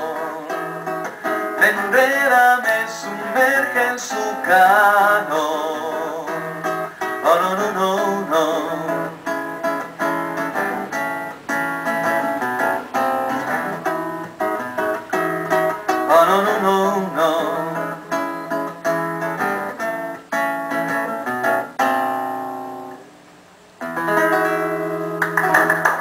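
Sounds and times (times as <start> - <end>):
plucked acoustic guitar: 0.0 - 23.2, 23.8 - 26.0.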